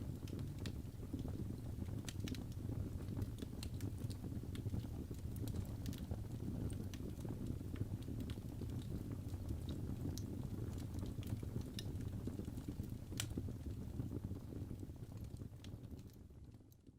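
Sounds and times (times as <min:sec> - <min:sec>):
fire flames rumbling: 0:00.0 - 0:16.6
fire crackling and popping: 0:00.0 - 0:16.9.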